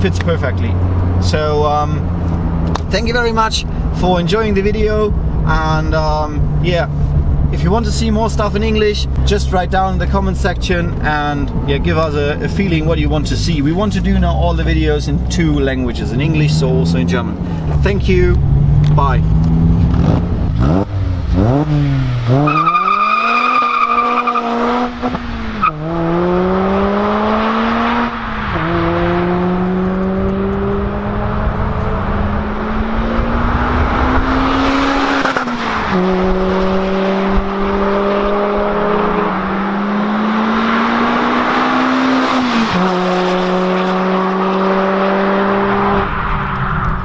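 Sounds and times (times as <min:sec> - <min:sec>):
car engine accelerating hard: 0:04.8 - 0:47.0.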